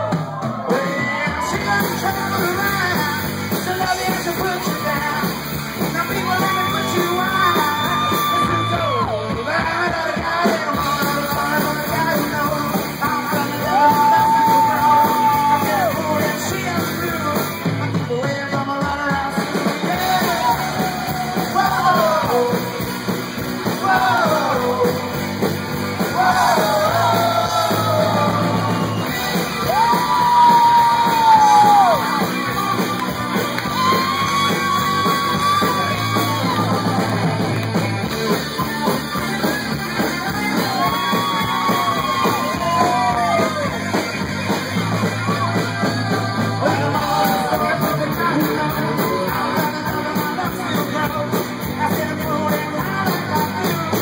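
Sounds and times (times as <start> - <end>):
rock band playing: 0.0 - 54.0
singer yelling and singing: 0.0 - 54.0.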